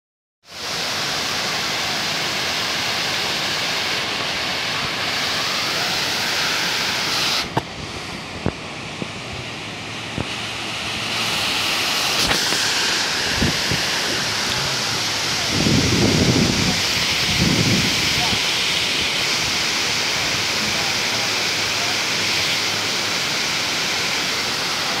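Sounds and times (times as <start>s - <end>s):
waterfall rushing: 0.5s - 25.0s.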